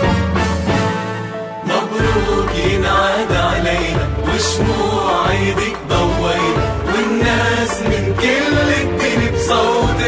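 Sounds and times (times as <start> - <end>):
instrumental backing music: 0.0 - 10.0.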